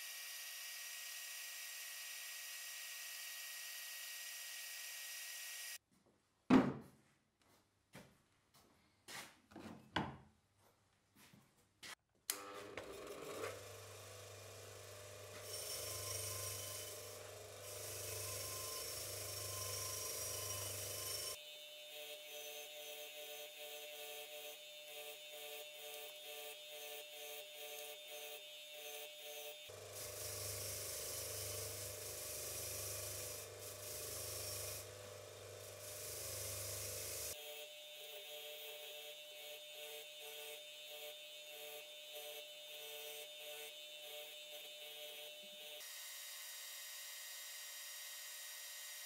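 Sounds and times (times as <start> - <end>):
bench grinder humming: 0.0 - 5.8, 12.3 - 49.0.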